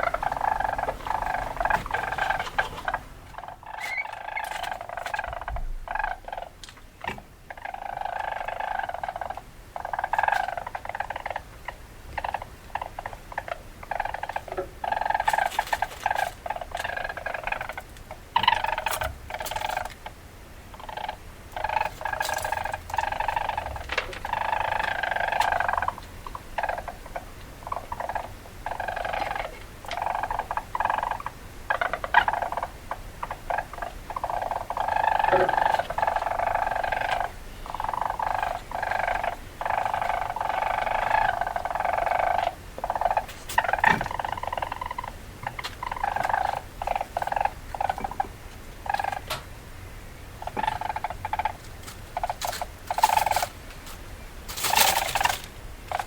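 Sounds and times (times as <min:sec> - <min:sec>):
weasel chattering calls: 0:00.0 - 0:06.7, 0:07.5 - 0:49.4, 0:50.2 - 0:53.6, 0:54.5 - 0:56.0.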